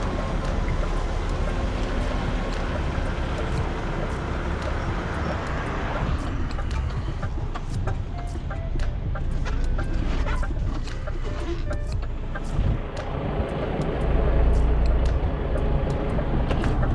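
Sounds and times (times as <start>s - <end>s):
light ticks: 0.0s - 16.9s
road noise: 0.0s - 16.9s
truck engine running: 0.0s - 16.9s.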